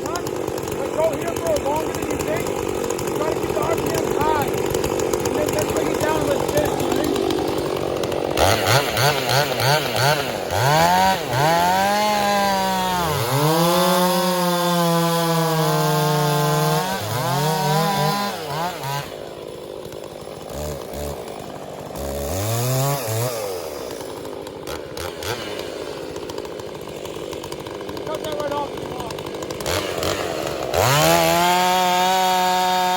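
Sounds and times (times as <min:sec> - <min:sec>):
chainsaw revving and cutting wood: 0:00.0 - 0:32.9.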